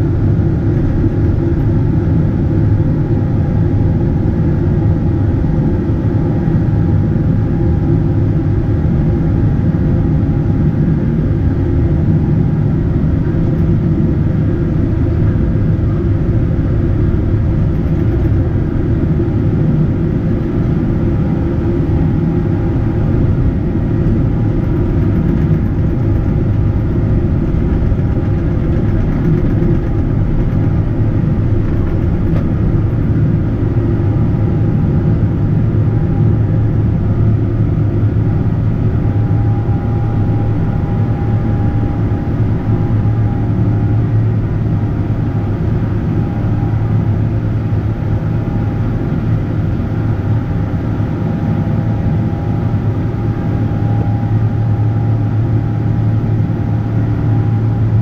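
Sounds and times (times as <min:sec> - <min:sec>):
airplane cabin engine drone: 0:00.0 - 0:58.0
faint steady whine: 0:00.0 - 0:58.0.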